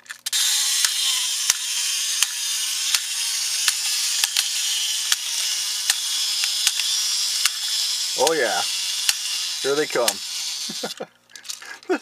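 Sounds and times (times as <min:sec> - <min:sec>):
high spring mechanism whirr: 0:00.3 - 0:11.6.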